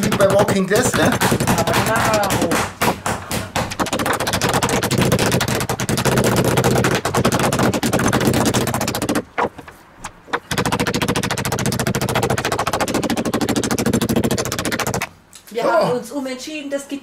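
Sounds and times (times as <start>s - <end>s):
meat mallet pounding on wood board: 0.0s - 9.2s, 10.4s - 15.1s.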